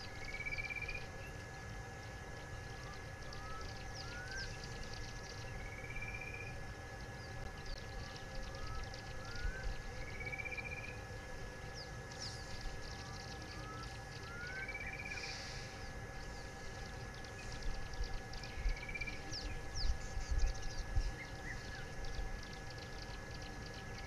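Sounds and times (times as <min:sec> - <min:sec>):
birds whistling and trilling: 0:00.0 - 0:24.0.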